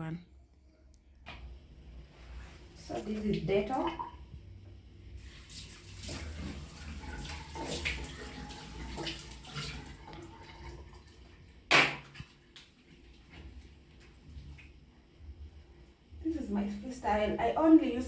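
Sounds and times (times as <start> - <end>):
low steady hum: 0.0 - 18.0
water running at a sink: 1.3 - 18.0.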